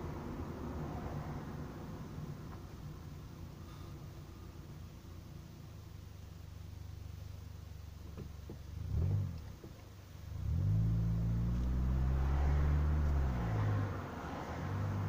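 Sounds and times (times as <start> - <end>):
car engine from inside cabin: 0.0 - 15.0.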